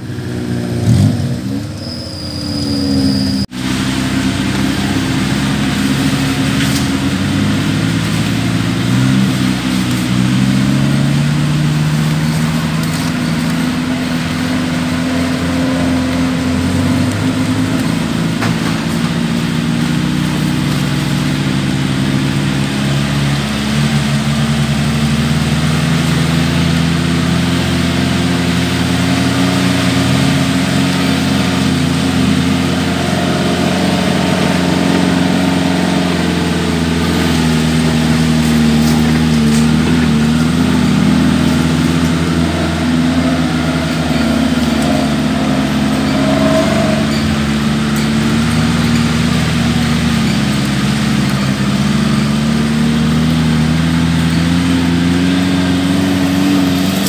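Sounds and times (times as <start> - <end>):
off-road engine running at low revs: 0.0 - 57.0.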